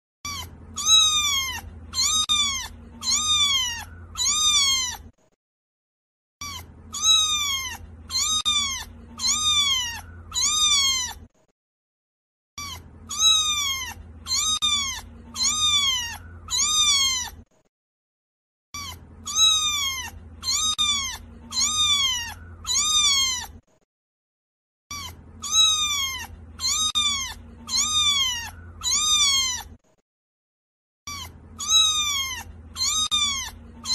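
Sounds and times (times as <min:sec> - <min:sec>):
cat meowing: 0:00.2 - 0:05.1, 0:06.4 - 0:11.3, 0:12.6 - 0:17.5, 0:18.7 - 0:23.7, 0:24.9 - 0:29.8, 0:31.1 - 0:33.9.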